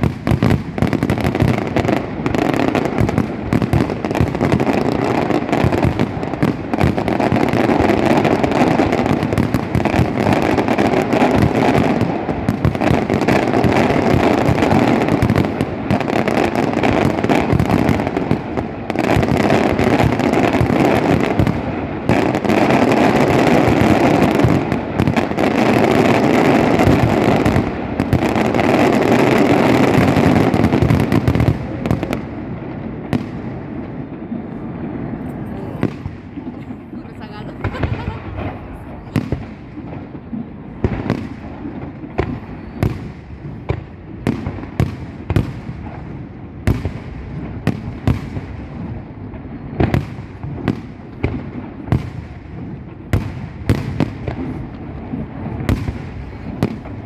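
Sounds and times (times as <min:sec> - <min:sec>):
firecrackers crackling: 0:00.0 - 0:57.0
fireworks bangs: 0:00.0 - 0:57.0.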